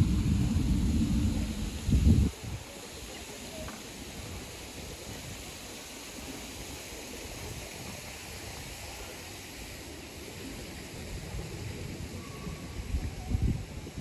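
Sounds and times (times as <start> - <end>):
wind rumble on microphone: 0.0 - 9.1, 10.2 - 14.0
outdoor town hiss: 0.0 - 14.0.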